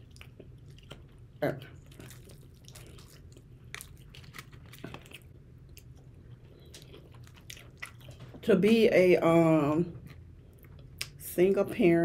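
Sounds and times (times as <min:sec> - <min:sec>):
chewing crunchy food: 0:00.0 - 0:08.9, 0:09.9 - 0:11.2.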